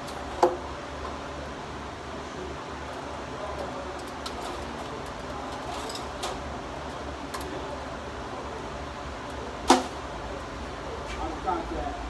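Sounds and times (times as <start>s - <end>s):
shop background hum: 0.0s - 12.0s.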